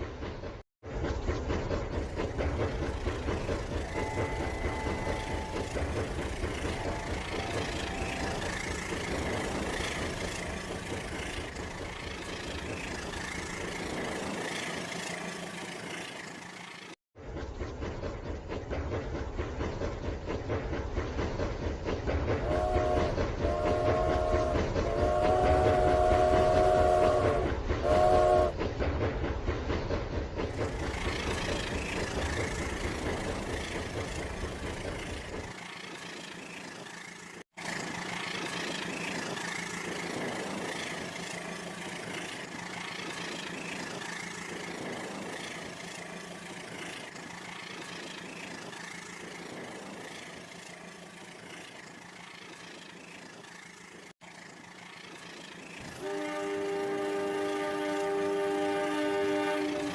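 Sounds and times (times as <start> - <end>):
engine running: 0.0 - 28.5, 30.1 - 59.9.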